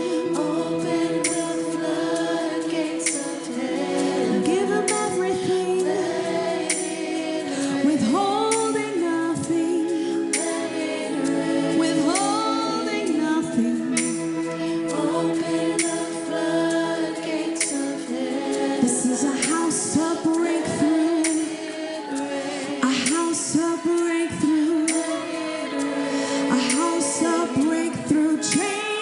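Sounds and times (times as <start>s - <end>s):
voices singing wordless lines: 0.0s - 29.0s.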